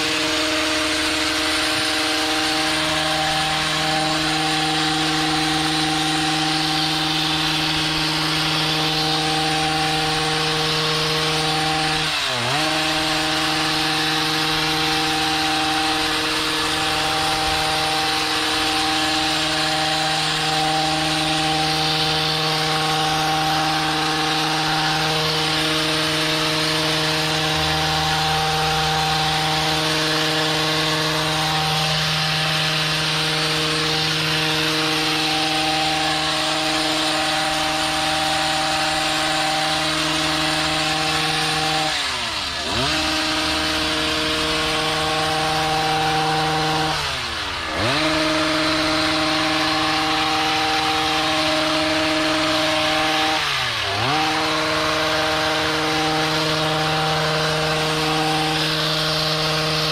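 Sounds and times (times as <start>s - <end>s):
hedge trimmer engine running: 0.0s - 59.9s.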